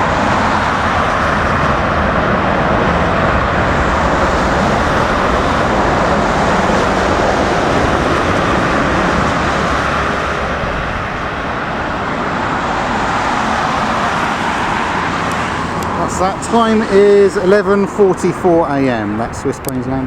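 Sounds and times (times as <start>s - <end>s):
jet airliner engines roaring: 0.0s - 20.0s.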